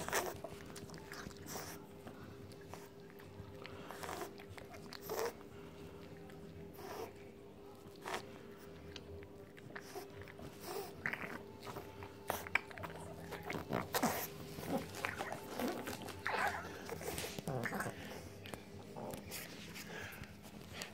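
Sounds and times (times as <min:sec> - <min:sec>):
puppy licking and chewing: 0:00.0 - 0:20.9.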